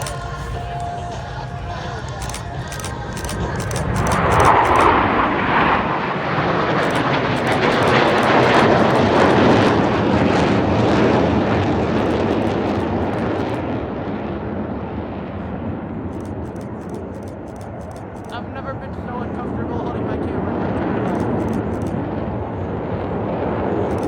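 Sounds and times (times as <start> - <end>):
airplane flying past: 0.0 - 24.0.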